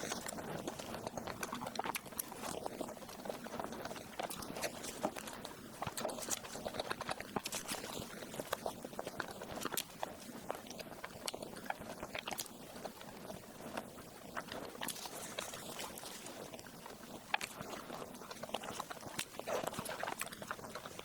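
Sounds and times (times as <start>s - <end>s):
wet chewing and mouth smacking: 0.0s - 21.0s.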